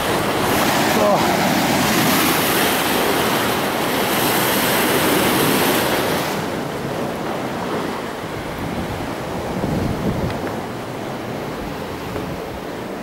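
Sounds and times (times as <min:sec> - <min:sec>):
ocean waves breaking on rocks: 0:00.0 - 0:13.0.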